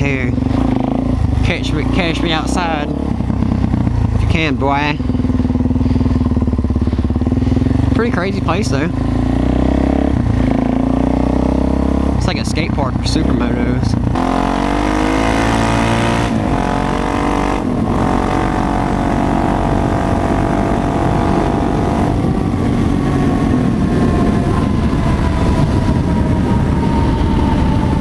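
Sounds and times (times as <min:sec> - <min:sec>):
motorcycle engine accelerating: 0:00.0 - 0:28.0
wind rumble on microphone: 0:00.0 - 0:28.0.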